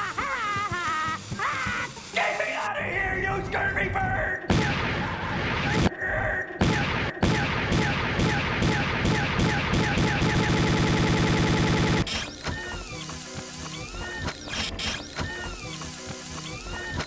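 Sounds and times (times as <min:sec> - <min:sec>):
stuttering cartoon audio loop: 0:00.0 - 0:17.0.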